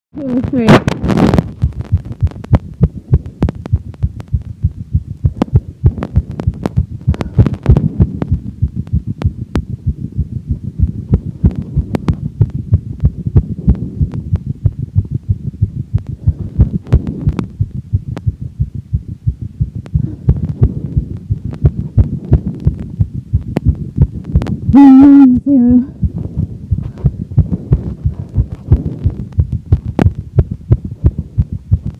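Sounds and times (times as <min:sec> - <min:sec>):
fast heartbeat thumps: 0:00.2 - 0:31.9.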